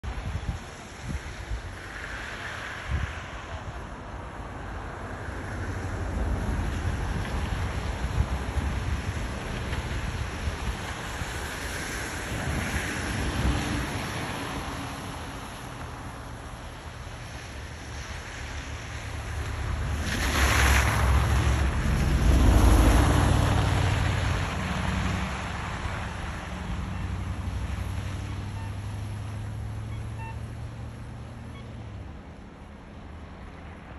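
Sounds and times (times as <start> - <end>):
wind rumble on microphone: 0.0 - 28.2.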